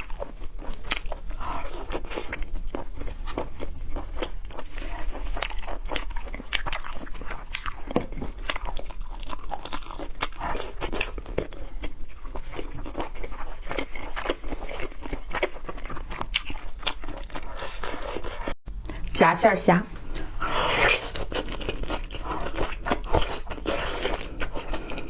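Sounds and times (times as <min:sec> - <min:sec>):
person chewing crunchy food: 0:00.0 - 0:19.2, 0:20.0 - 0:25.0.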